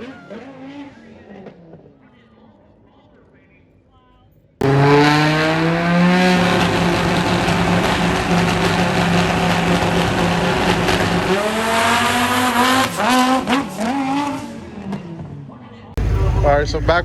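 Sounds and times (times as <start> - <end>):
race car engine revving: 0.0 - 2.0, 4.6 - 17.0.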